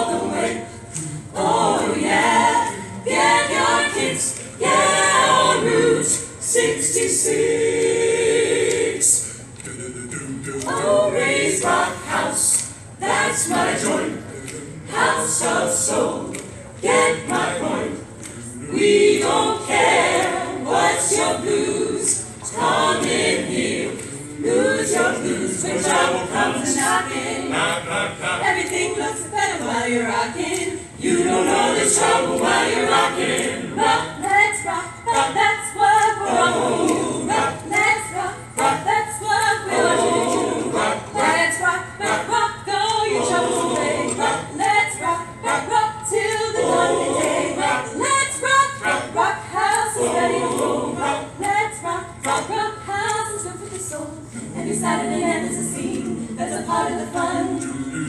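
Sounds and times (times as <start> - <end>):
mixed choir singing a cappella: 0.0 - 58.0.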